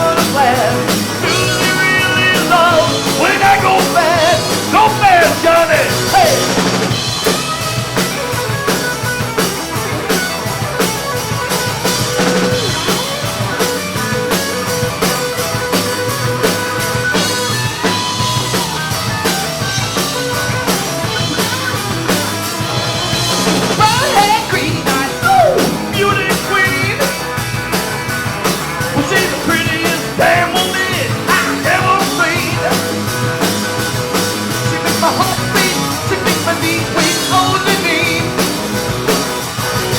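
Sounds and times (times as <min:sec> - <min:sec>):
drum kit beat: 0:00.0 - 0:39.9
guitars: 0:00.0 - 0:39.9.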